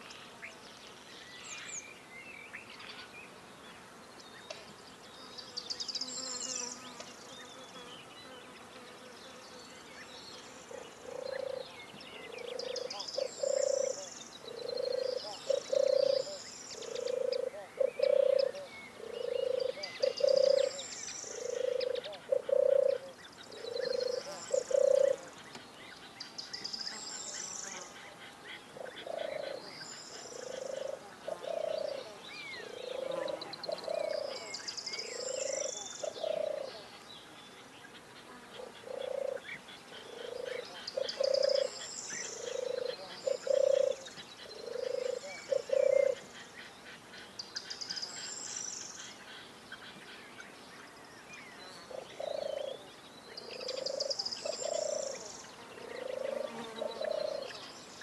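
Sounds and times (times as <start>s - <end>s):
songbird phrases: 0.0s - 58.0s.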